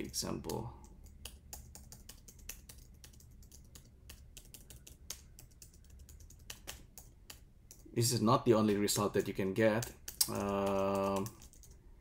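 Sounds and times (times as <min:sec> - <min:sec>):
keyboard keys clicking: 0:00.2 - 0:07.9, 0:08.8 - 0:11.8.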